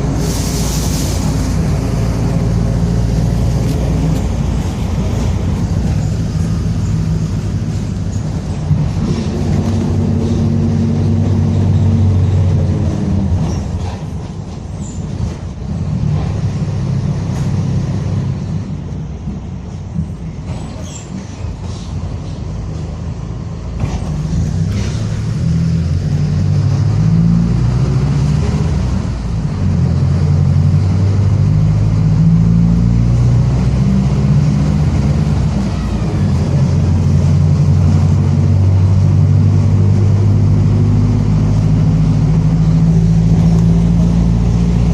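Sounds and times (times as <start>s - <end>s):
bus drivetrain growling: 0.0s - 44.9s.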